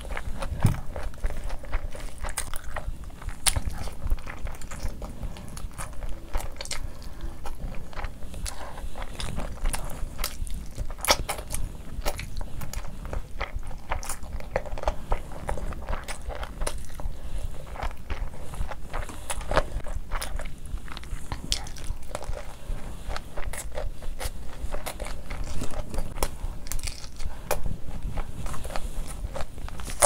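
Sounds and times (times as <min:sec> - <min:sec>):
wet chewing and lip-smacking: 0:00.0 - 0:30.0.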